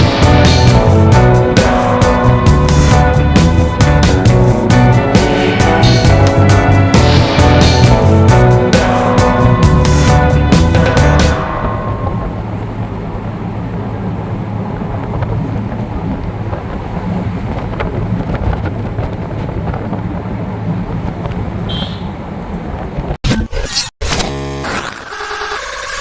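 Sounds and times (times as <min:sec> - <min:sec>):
wind and road noise: 0:00.0 - 0:23.9.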